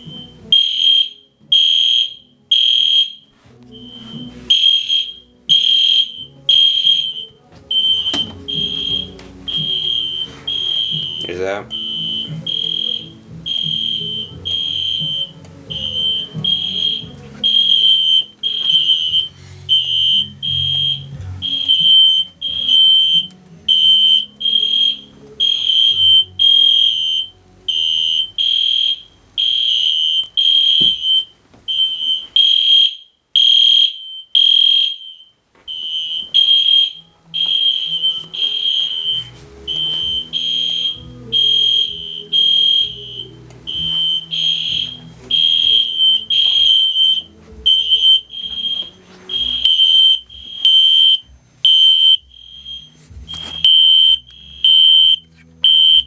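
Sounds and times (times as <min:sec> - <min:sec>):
fire alarm horn blasts: 0:00.0 - 0:56.0.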